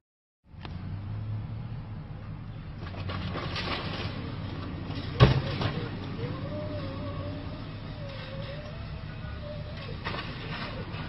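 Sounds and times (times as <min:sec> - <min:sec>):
car hum and road noise: 0:00.5 - 0:11.0.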